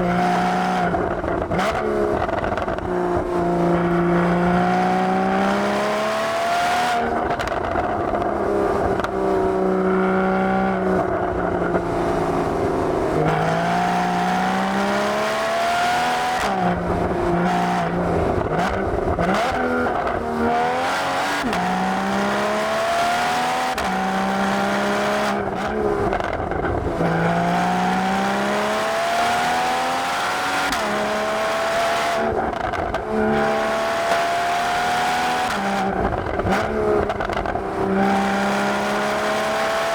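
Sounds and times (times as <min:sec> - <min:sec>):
car exhaust accelerating hard: 0:06.8 - 0:39.9.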